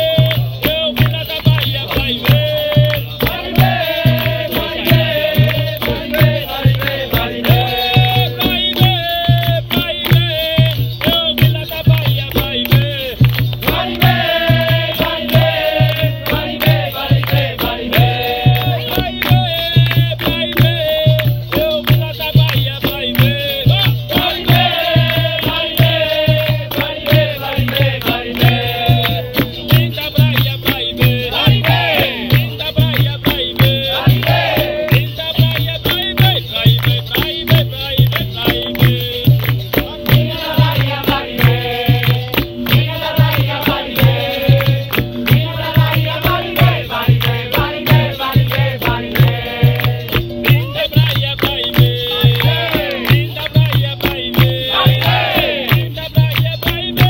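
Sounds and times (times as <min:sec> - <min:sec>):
hand drum beat: 0:00.0 - 0:57.0
people singing: 0:00.0 - 0:57.0
percussion rhythm: 0:00.0 - 0:57.0.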